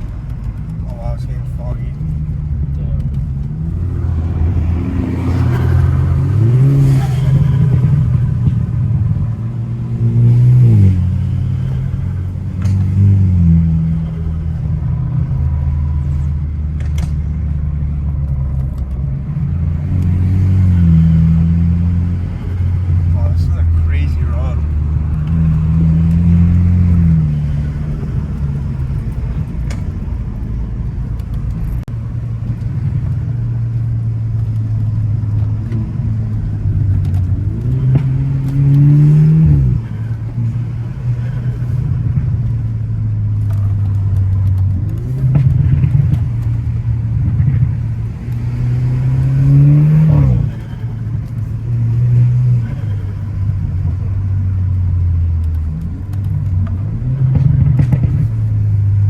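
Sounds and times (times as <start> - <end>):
car engine pulling hard: 0.0 - 59.0.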